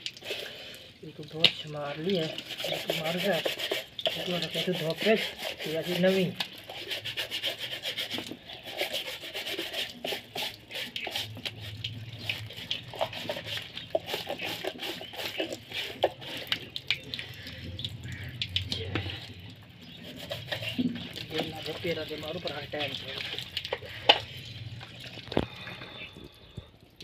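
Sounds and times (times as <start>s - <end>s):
brush scrubbing a wet sandal: 1.2s - 18.3s, 18.9s - 24.7s.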